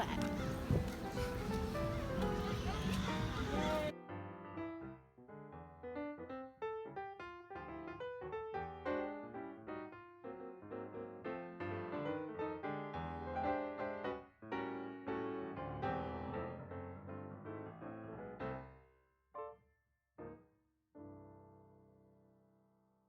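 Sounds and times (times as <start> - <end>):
piano music: 0.0 - 18.6.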